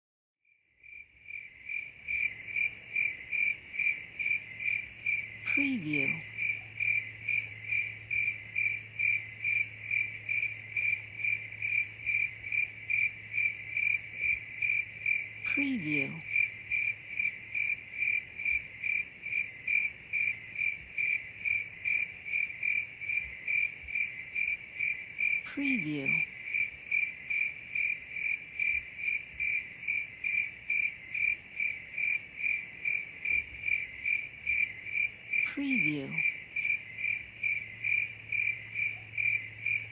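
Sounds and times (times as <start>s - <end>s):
cricket chirping: 0.5s - 39.9s.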